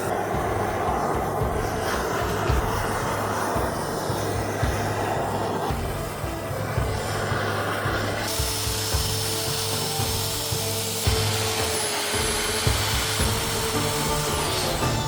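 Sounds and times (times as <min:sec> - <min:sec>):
background music: 0:00.0 - 0:15.0
tool rubbing wood: 0:00.0 - 0:15.0.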